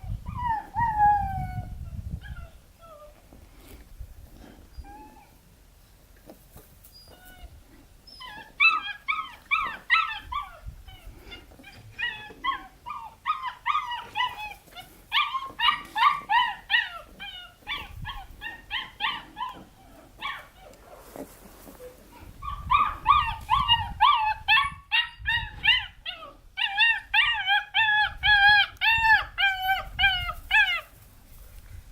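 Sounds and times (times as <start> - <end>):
puppy whining and yipping: 0.0 - 3.3, 4.7 - 5.4, 6.9 - 31.0.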